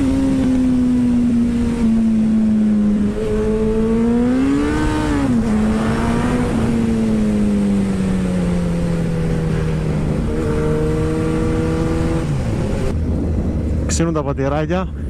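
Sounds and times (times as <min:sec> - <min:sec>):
motorcycle engine: 0:00.0 - 0:14.0
wind rush: 0:00.0 - 0:15.0.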